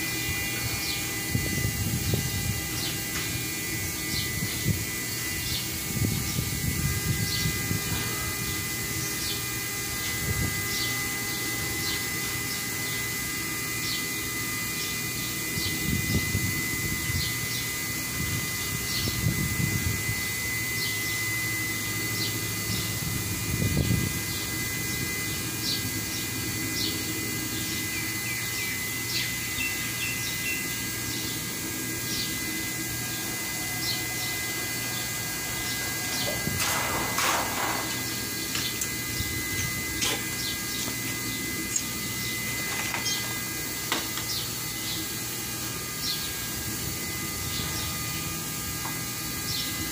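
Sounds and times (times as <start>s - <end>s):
machinery drone: 0.0s - 49.9s
thin constant whine: 0.0s - 49.9s.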